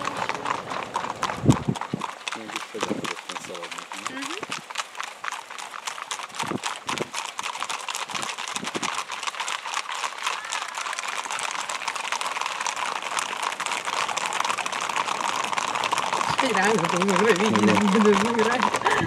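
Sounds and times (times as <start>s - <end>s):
horse hooves clattering on asphalt: 0.0s - 19.0s.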